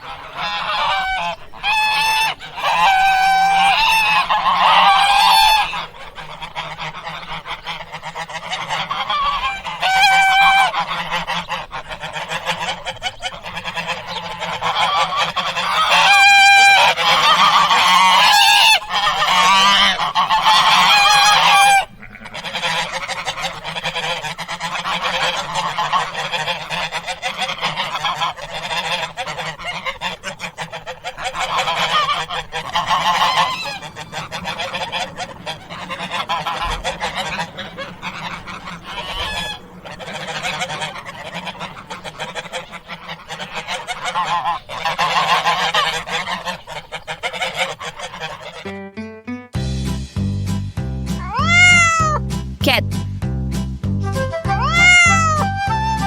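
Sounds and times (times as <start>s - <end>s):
waterfowl honking: 0.0s - 48.9s, 51.2s - 52.8s, 54.2s - 56.0s.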